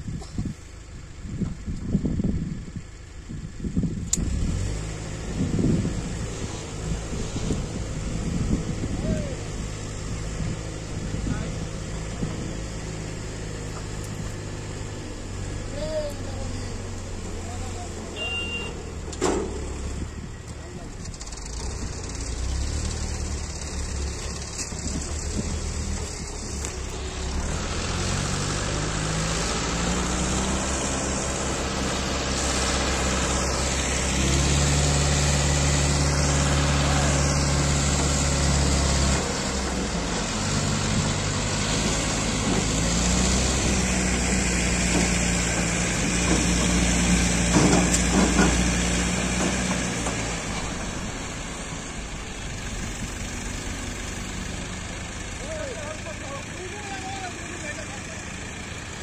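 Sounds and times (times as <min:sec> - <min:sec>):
diesel crane engines revving: 0:00.0 - 0:59.0.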